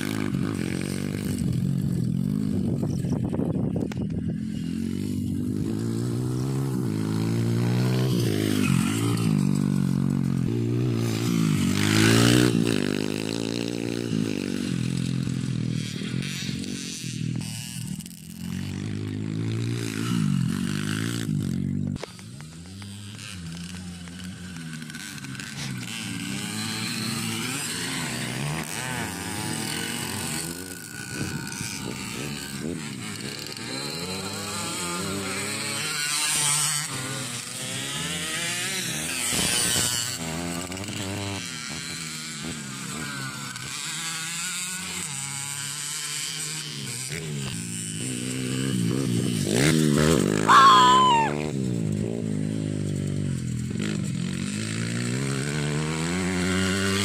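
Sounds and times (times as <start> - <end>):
motocross bikes revving: 0.0 - 57.0
motorbike passing by: 0.0 - 57.0.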